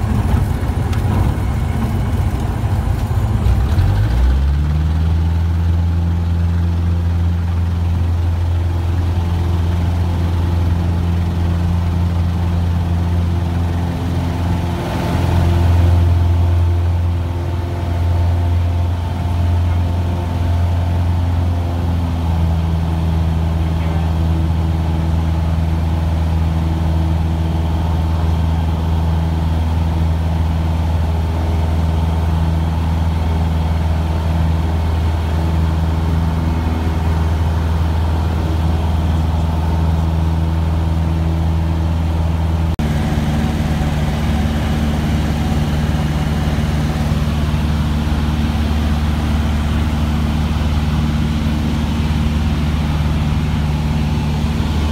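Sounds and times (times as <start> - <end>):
small plane engine drone: 0.0 - 54.9.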